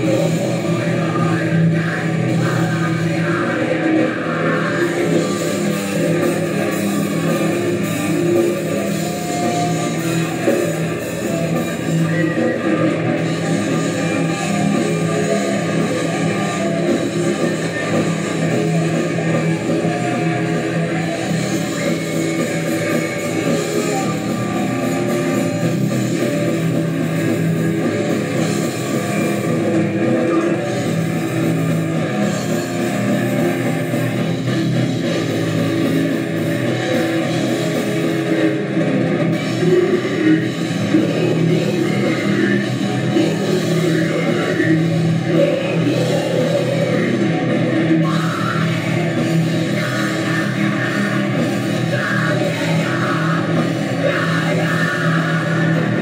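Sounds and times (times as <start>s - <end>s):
heavy metal band playing live: 0.0s - 56.0s.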